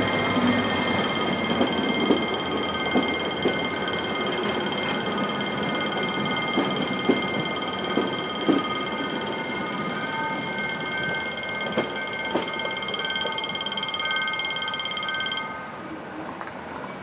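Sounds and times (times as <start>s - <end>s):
train wheels squealing: 0.0s - 15.4s.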